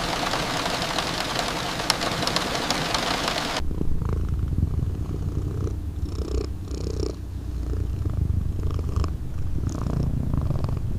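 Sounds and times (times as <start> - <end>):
cat purring: 0.0 - 10.9.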